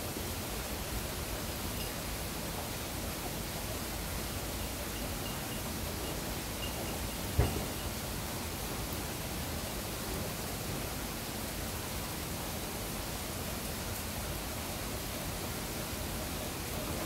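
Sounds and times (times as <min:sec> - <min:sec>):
rain hissing on foliage: 0:00.0 - 0:17.0.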